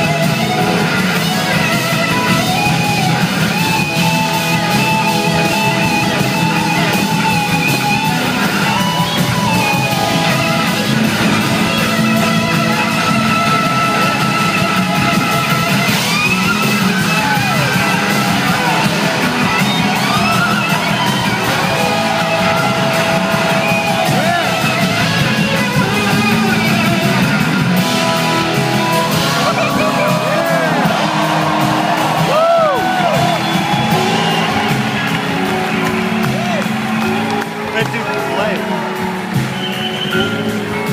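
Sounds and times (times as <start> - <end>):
electric slide guitar solo: 0.0 - 40.9
live rock band playing: 0.0 - 40.9.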